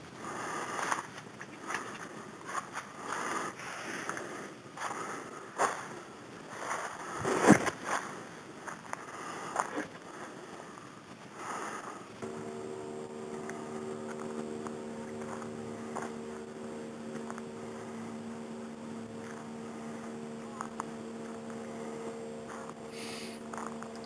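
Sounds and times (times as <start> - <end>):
steady hum of held tones: 0.0 - 24.0.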